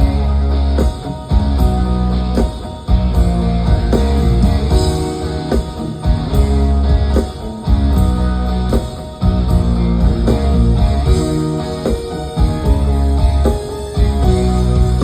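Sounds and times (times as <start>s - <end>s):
drums: 0.0s - 15.0s
guitar: 0.0s - 15.0s
heavy bass line: 0.0s - 15.0s.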